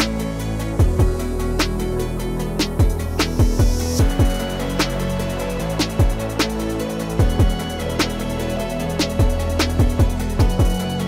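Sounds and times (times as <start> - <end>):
background music with beat: 0.0 - 11.0
deep bass hits sliding down: 0.0 - 11.0.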